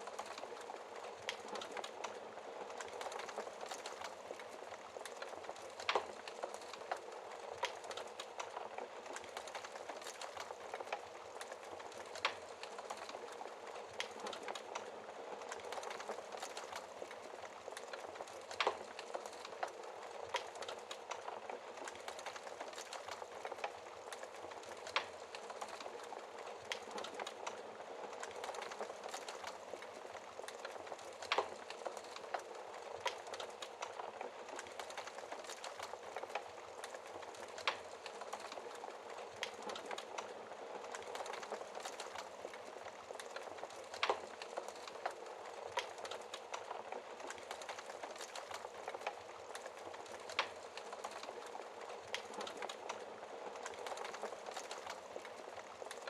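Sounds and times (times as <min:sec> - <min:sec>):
fire crackling pops: 0:00.0 - 0:56.0
wood fire hissing: 0:00.0 - 0:56.0.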